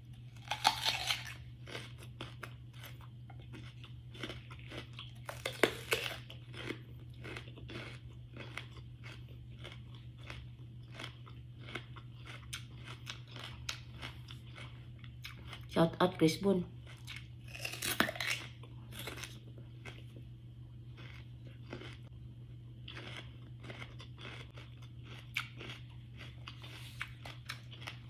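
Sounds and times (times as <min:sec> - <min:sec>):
low steady hum: 0:00.0 - 0:28.0
crunchy chewing: 0:00.3 - 0:15.7, 0:16.8 - 0:22.2, 0:22.8 - 0:28.0.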